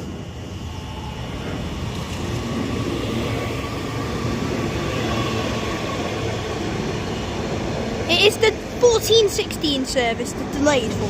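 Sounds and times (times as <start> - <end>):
electric train rumble and hiss: 0.0 - 11.0.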